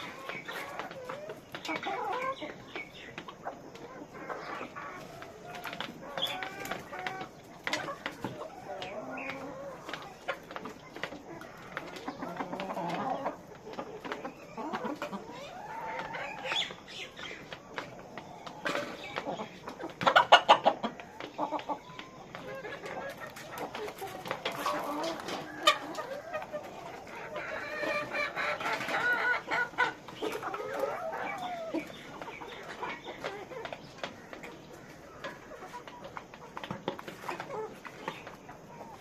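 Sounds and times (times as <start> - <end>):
hens clucking: 0.0 - 39.0.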